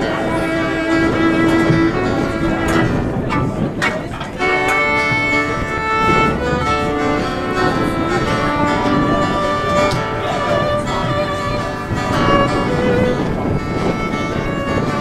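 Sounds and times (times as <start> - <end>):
fiddle melody: 0.0 - 15.0
strummed acoustic guitar: 0.0 - 15.0.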